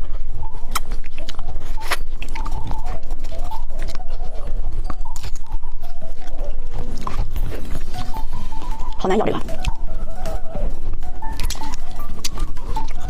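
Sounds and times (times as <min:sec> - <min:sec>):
chewing gummy candy: 0:00.0 - 0:13.0
mouth clicks and smacks: 0:00.2 - 0:10.4, 0:11.0 - 0:13.0.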